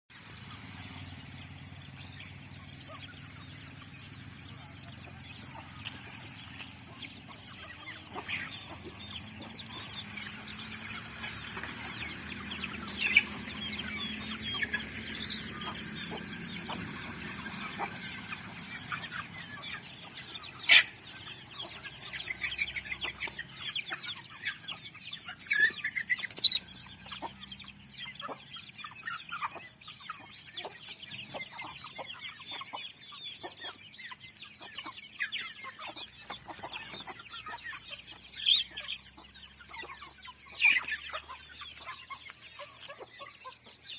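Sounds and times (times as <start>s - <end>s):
chickens clucking: 0.1s - 43.9s.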